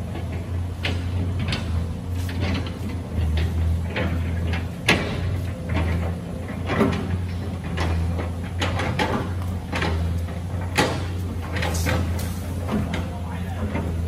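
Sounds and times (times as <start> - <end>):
excavator boom knocks and clanks: 0.0 - 14.0
excavator diesel engine drone: 0.0 - 14.0.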